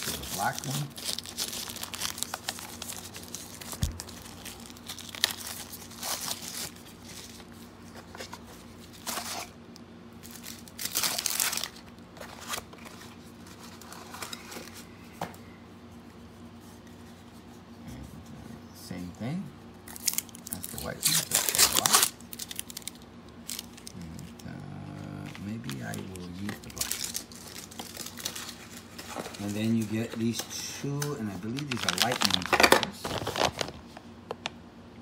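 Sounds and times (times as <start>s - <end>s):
plastic packaging crinkling: 0.0s - 9.6s, 10.2s - 14.8s, 19.9s - 24.5s, 25.2s - 34.6s.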